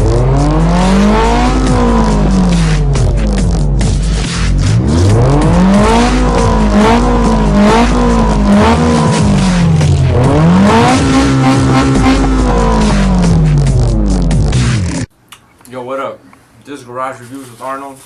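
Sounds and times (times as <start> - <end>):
car engine revving: 0.0 - 15.1
steady low drone: 0.0 - 15.1.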